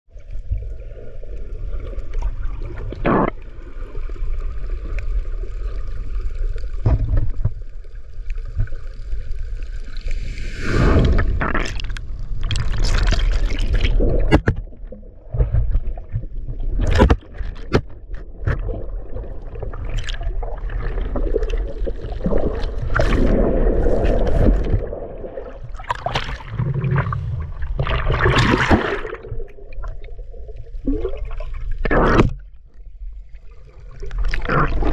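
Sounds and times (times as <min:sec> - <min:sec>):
water splashing and sloshing: 0:00.1 - 0:34.9
muffled underwater rumble: 0:00.2 - 0:34.9.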